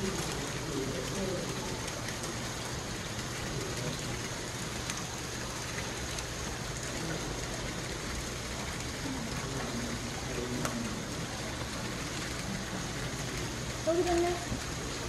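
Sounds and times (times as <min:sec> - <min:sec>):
faint water drips: 0:00.0 - 0:15.0
water splashing into pond: 0:00.0 - 0:15.0.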